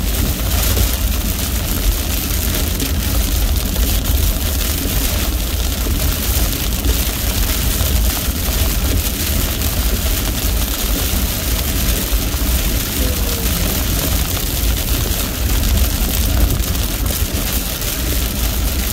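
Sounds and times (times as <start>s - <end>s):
car road and engine rumble: 0.0s - 18.9s
rain and wet tyres hissing: 0.0s - 18.9s.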